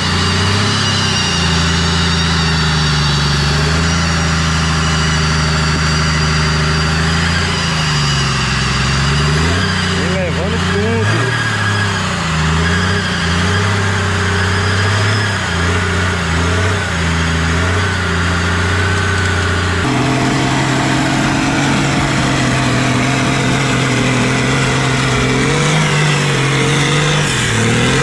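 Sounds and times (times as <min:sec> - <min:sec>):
off-road engine revving: 0:00.0 - 0:28.0.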